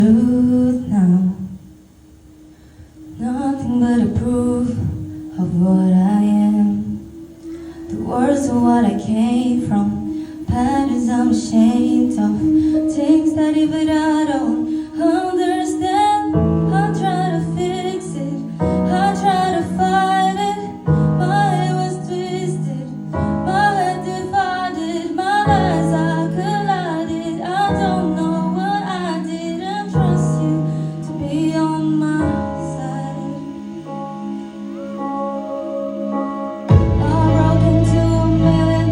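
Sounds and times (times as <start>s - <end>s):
woman singing: 0.0s - 1.7s, 3.1s - 34.4s, 36.7s - 38.9s
keyboard chords: 0.0s - 38.9s.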